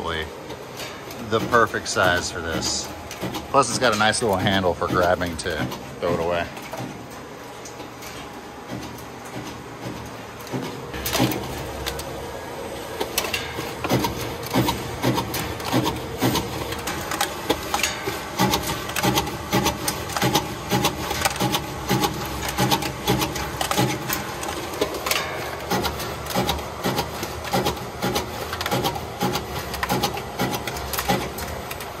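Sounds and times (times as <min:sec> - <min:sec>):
motor hum: 0:00.0 - 0:32.0.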